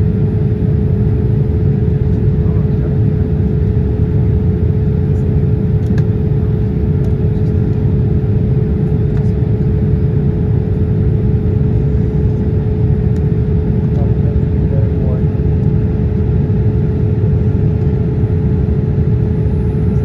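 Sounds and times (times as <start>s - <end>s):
constant hum on one note: 0.0s - 20.0s
jet engines rumbling: 0.0s - 20.0s.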